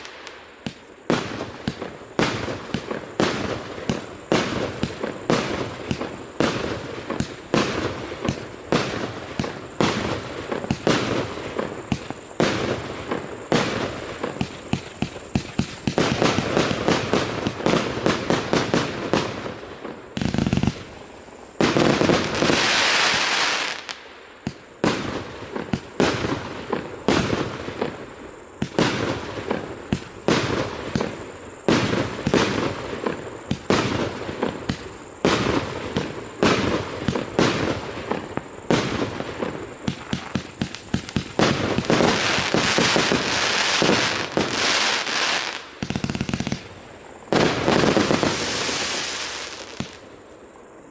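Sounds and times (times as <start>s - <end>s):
firework crackling: 0.0s - 50.1s.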